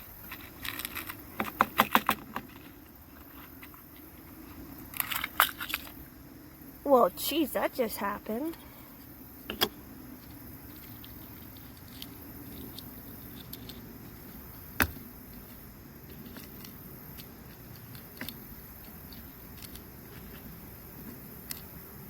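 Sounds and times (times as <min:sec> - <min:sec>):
faint outdoor hiss: 0:00.0 - 0:22.0.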